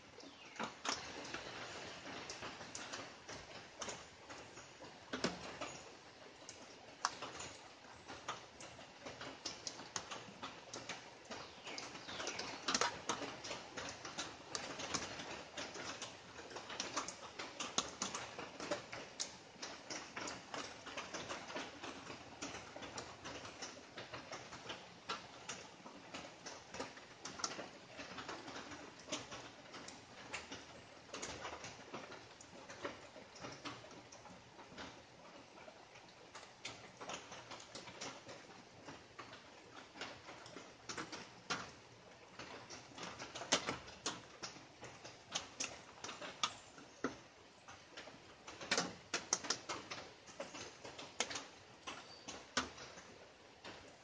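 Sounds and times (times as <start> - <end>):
rain drops tapping on leaves: 0.0 - 54.0.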